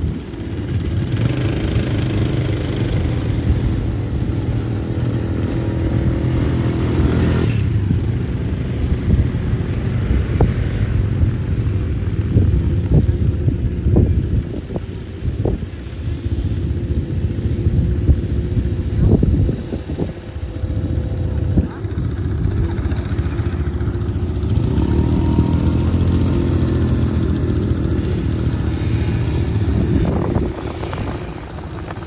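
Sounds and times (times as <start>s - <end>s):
low rumble of engines: 0.0s - 32.0s
nearby quad bike engine: 0.0s - 32.0s.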